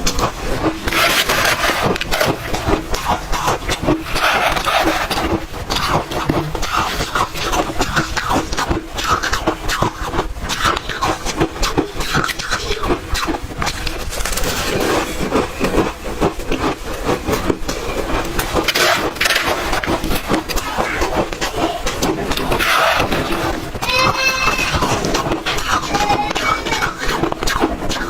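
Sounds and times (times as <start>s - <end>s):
ice chewing crunches: 0.0s - 28.0s.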